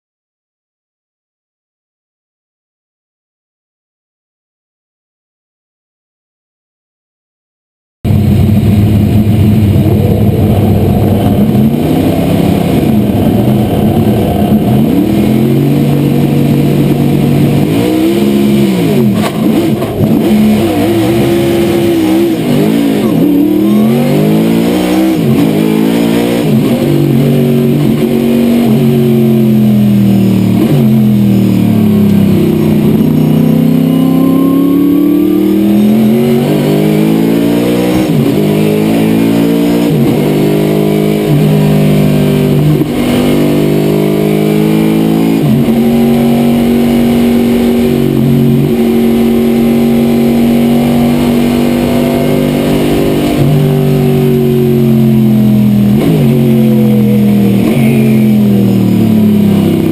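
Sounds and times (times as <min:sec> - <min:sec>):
race car engine revving: 0:08.1 - 0:59.9.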